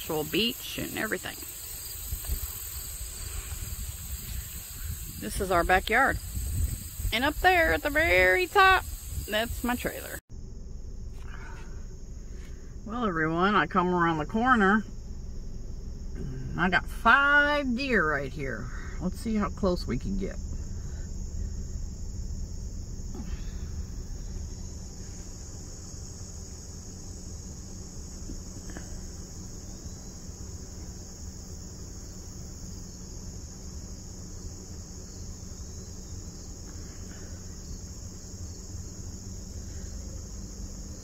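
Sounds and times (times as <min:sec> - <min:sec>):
crickets chirping: 0:00.0 - 0:41.0
low steady rumble: 0:00.0 - 0:41.0.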